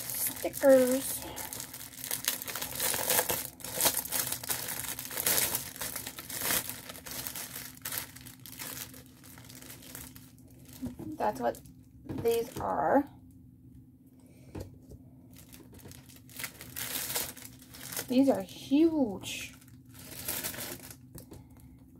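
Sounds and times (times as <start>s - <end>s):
plastic bag crinkling: 0.0s - 12.9s, 15.3s - 21.4s.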